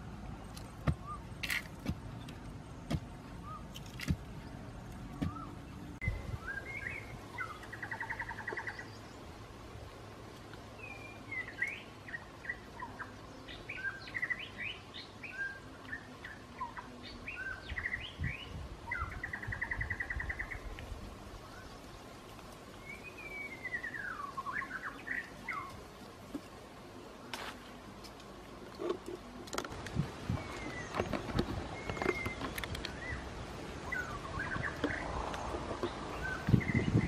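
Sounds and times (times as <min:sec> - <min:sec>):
small birds singing: 0:00.0 - 0:37.0.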